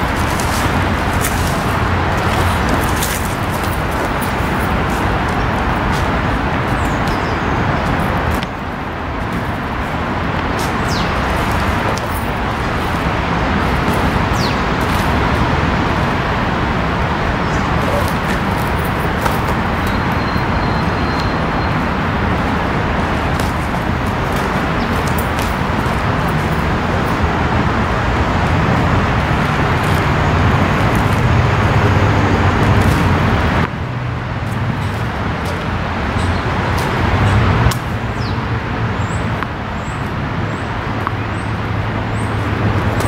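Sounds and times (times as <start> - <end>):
loud outdoor rushing noise: 0.0 - 43.0.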